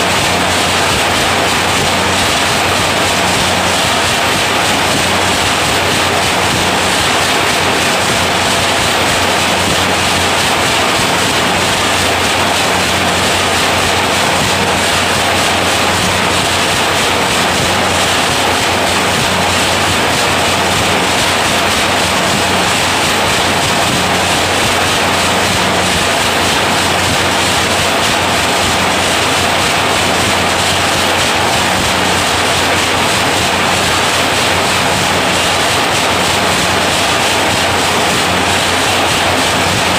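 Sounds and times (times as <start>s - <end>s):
nail making machine running: 0.0s - 39.9s.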